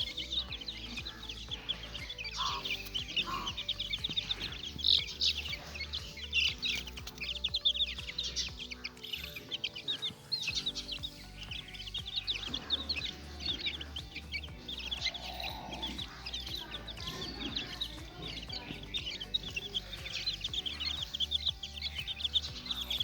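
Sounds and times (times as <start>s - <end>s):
chicks peeping: 0.0s - 23.0s
quiet background music: 0.0s - 23.0s.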